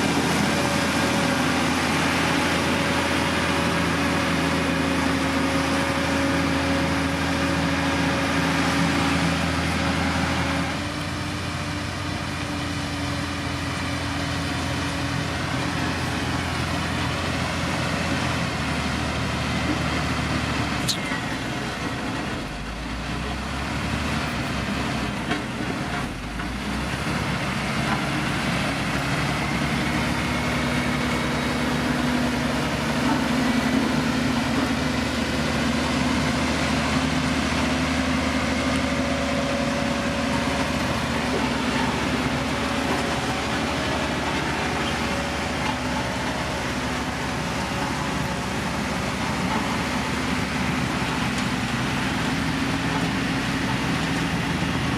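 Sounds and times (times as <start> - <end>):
diesel construction machine engine: 0.0 - 54.9.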